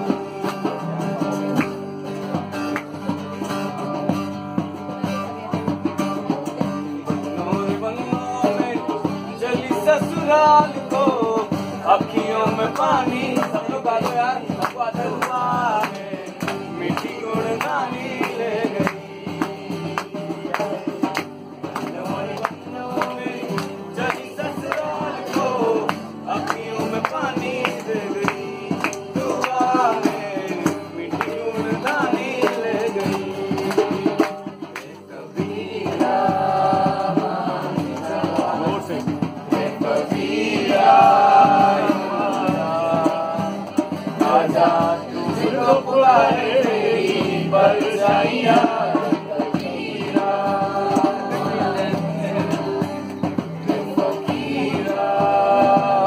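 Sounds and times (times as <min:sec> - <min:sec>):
acoustic guitar: 0:00.0 - 0:56.0
men singing in a group: 0:00.0 - 0:56.0.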